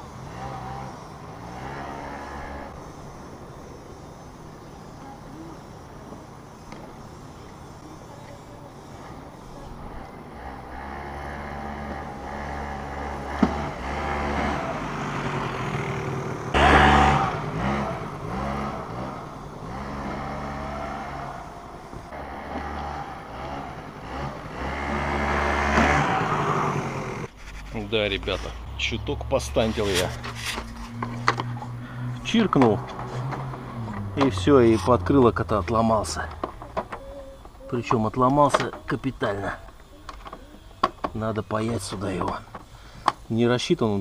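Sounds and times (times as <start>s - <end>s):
scooter engine revving: 0.0s - 2.9s, 9.0s - 27.4s, 28.1s - 42.4s.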